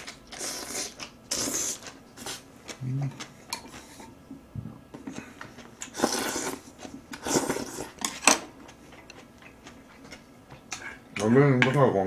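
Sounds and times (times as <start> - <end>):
chewing and slurping: 0.0 - 4.2, 5.0 - 11.2.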